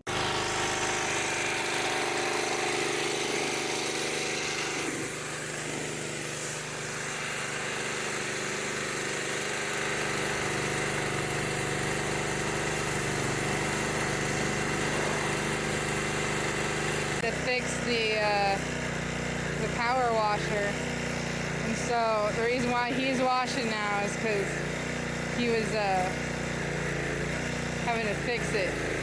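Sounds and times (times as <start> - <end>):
pressure washer running: 0.0 - 29.0.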